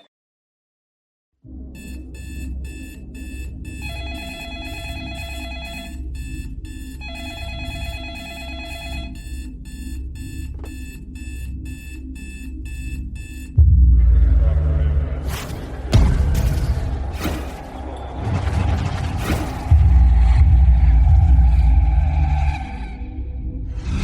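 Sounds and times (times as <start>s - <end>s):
steady bass line: 1.5s - 18.2s, 19.2s - 22.6s.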